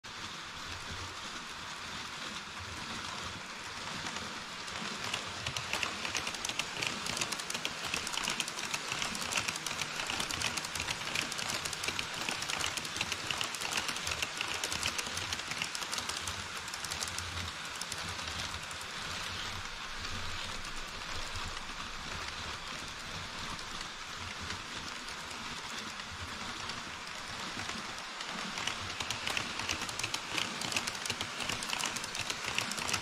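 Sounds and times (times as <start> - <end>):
model train wheels clicking: 2.9 - 33.0.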